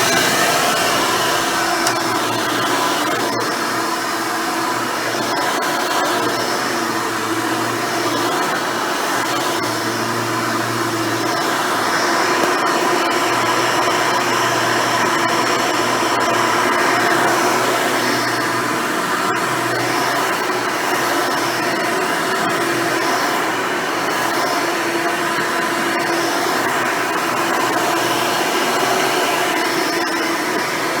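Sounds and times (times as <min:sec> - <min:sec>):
upright vacuum cleaner running: 0:00.0 - 0:31.0.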